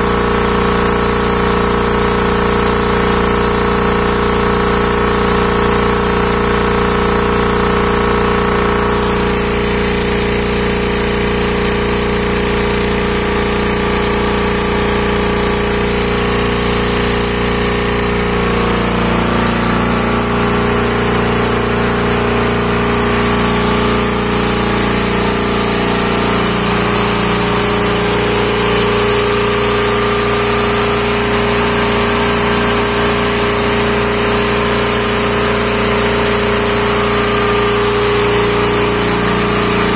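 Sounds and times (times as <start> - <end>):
compressor clattering: 0.0 - 39.9.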